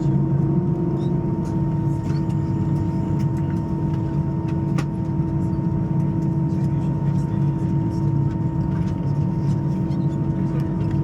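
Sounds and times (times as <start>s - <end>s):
aircraft cabin engine hum: 0.0s - 11.0s.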